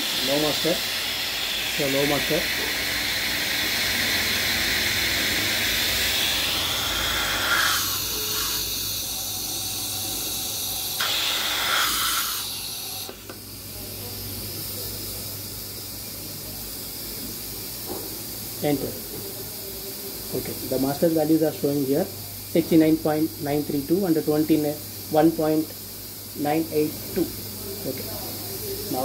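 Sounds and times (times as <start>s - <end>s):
compressed air hissing: 0.0s - 29.0s.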